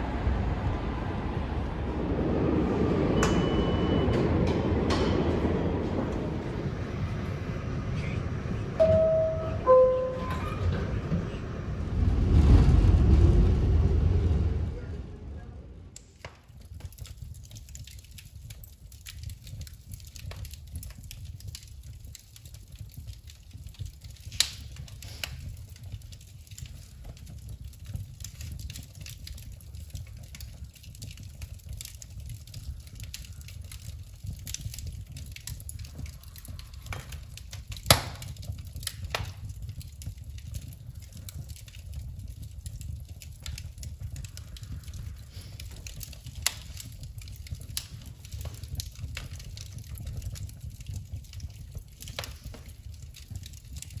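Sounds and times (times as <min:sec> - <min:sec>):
fire crackling and popping: 0:00.0 - 0:10.1, 0:11.0 - 0:54.0
wood fire rumbling: 0:00.0 - 0:54.0.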